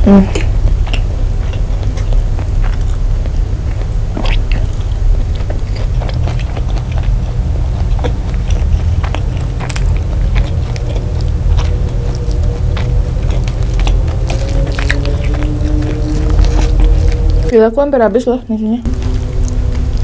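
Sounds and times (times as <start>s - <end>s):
steady low rumble: 0.0s - 20.0s
close-miked chewing: 0.2s - 17.5s, 18.8s - 20.0s.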